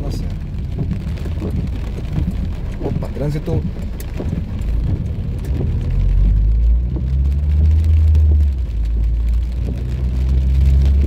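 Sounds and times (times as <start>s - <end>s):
car engine and road noise: 0.0s - 11.0s
rain falling on car: 0.0s - 11.0s.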